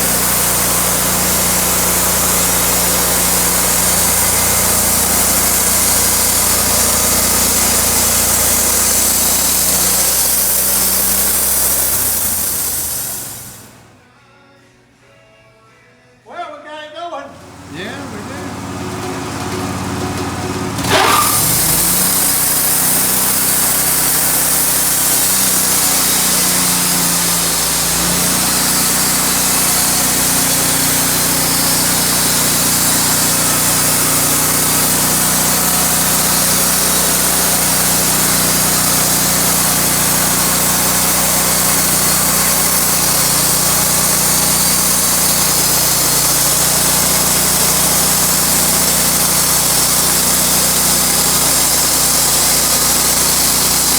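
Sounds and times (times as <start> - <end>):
mill sawing log: 0.0 - 14.0, 17.3 - 53.9
sawmill engine running: 0.0 - 14.0, 17.1 - 53.9.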